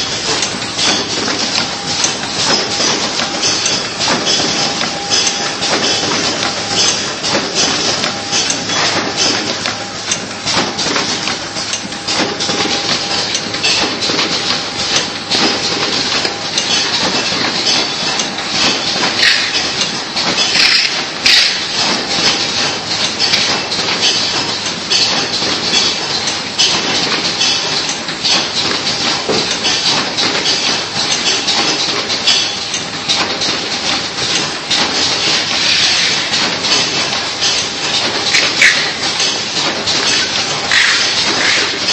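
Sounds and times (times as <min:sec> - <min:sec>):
packaging machine clattering: 0:00.0 - 0:41.9.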